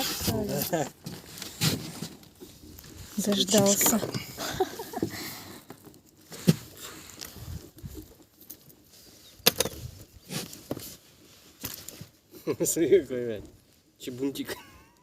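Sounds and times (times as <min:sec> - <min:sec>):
soft rustling and shuffling: 0:00.0 - 0:14.3.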